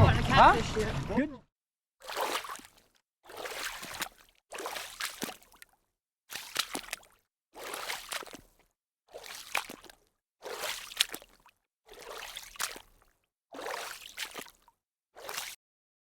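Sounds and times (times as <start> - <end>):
water splashing and sloshing: 2.0 - 15.6.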